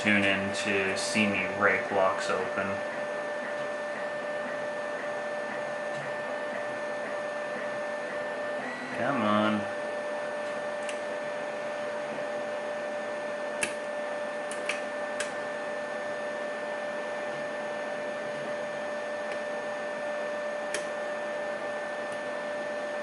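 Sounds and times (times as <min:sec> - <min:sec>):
printer motors whining: 0:00.0 - 0:23.0.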